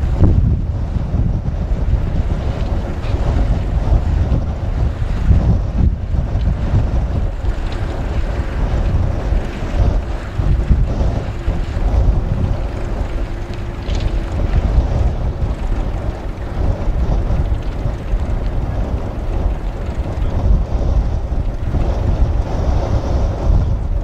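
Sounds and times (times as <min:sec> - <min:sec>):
tractor engine running: 0:00.0 - 0:24.0
wind buffeting microphone: 0:00.0 - 0:24.0.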